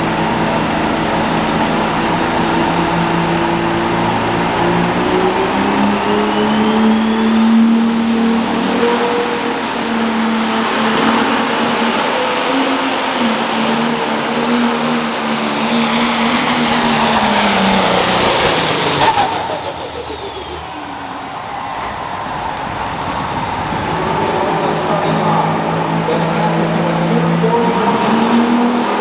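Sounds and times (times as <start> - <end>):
engine crackle: 0.0 - 28.6
diesel engine running under load: 0.0 - 28.9
high turbo whine: 0.0 - 29.0.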